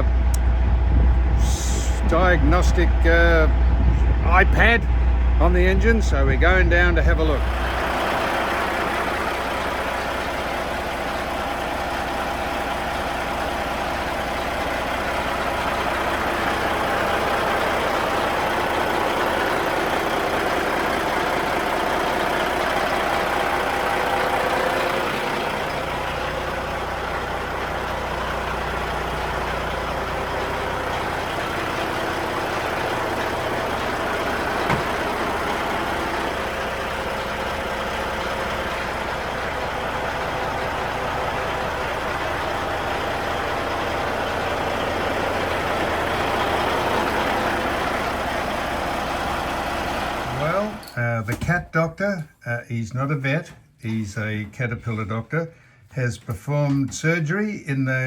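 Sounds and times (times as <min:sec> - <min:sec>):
diesel engine idling: 0:00.0 - 0:51.3.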